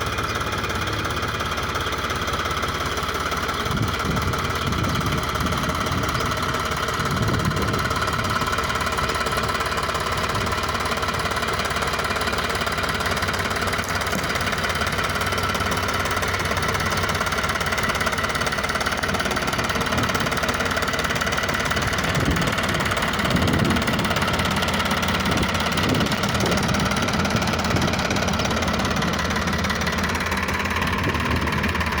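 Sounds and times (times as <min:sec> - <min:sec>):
tractor engine chugging: 0:00.0 - 0:32.0.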